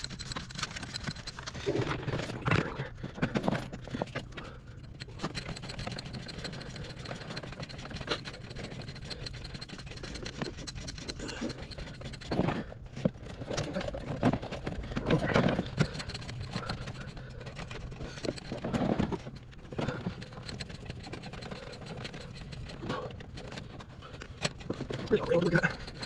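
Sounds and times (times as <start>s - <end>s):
cable scraping against metal: 0.0s - 26.0s.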